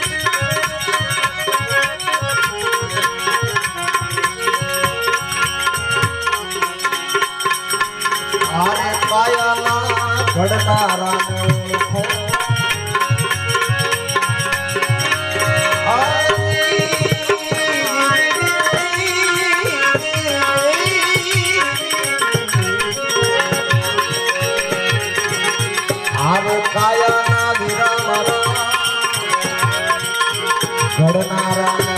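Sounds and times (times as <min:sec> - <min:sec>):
tabla playing: 0:00.0 - 0:31.9.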